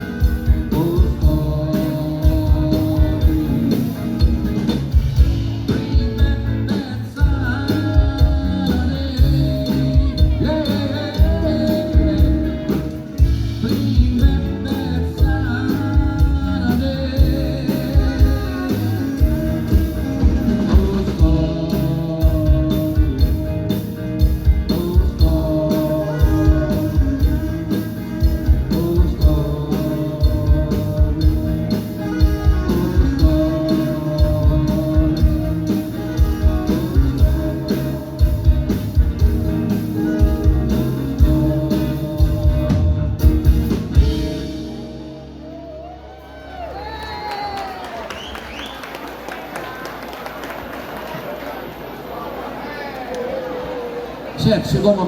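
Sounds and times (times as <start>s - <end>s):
live band with singing: 0.0s - 55.0s.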